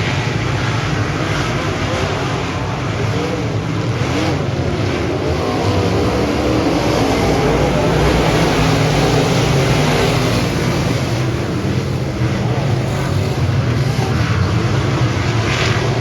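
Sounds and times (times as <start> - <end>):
race car engine drone: 0.0 - 16.0.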